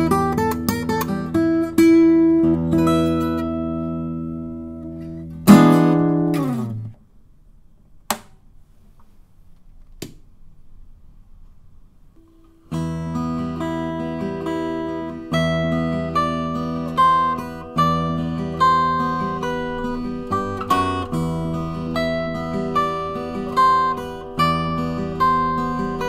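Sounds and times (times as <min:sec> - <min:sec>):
acoustic guitar chords: 0:00.0 - 0:07.1, 0:12.2 - 0:26.0.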